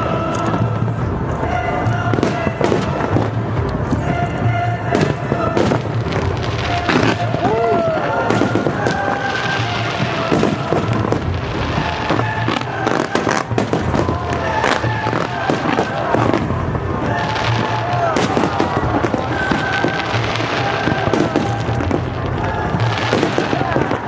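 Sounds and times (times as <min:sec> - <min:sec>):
background music: 0:00.0 - 0:24.0
fireworks bursting and crackling: 0:00.0 - 0:24.0.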